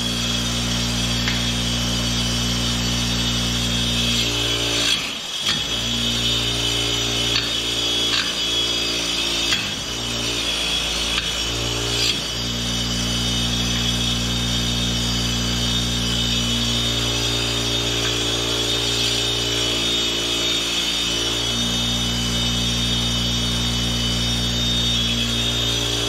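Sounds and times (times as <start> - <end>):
bench grinder running: 0.0 - 26.0.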